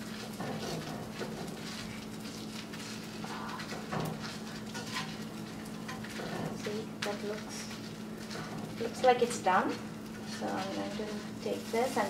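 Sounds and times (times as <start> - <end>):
sandwich sizzling in a pan: 0.0 - 12.0
steady low hum: 0.0 - 12.0.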